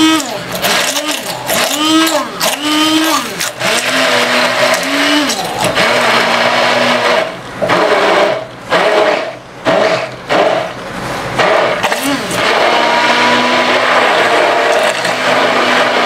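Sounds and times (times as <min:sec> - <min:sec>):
immersion blender motor whine: 0:00.0 - 0:10.8, 0:11.4 - 0:16.0.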